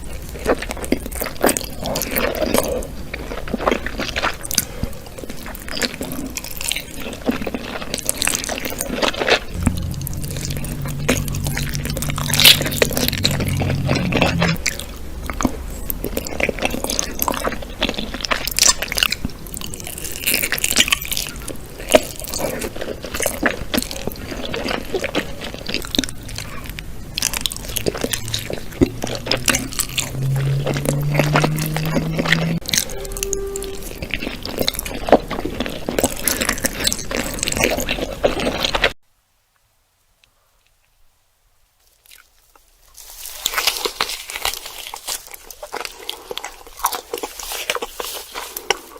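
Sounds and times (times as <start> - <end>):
wet chewing of food: 0.0 - 39.0, 41.8 - 48.9.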